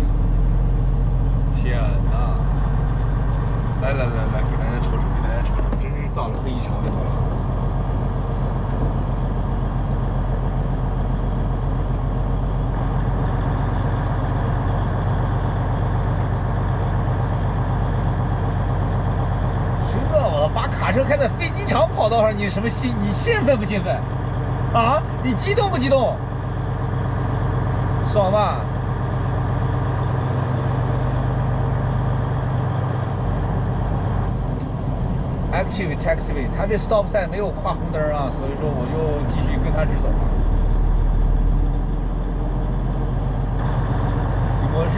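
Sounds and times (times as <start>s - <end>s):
diesel truck engine droning: 0.0s - 44.9s
road noise: 0.0s - 44.9s.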